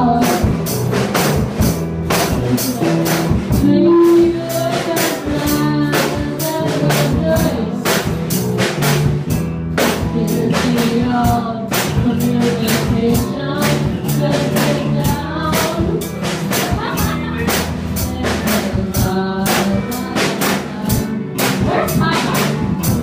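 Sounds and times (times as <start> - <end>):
girl singing into microphone: 0.0 - 0.7, 2.6 - 8.2, 9.8 - 23.0
acoustic guitar: 0.0 - 23.0
drum kit beat: 0.0 - 23.0.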